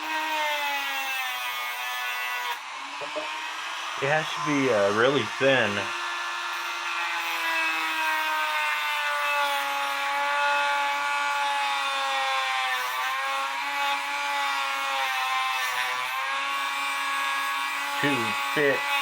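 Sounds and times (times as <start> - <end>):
rotary tool grinding metal: 0.0 - 19.0.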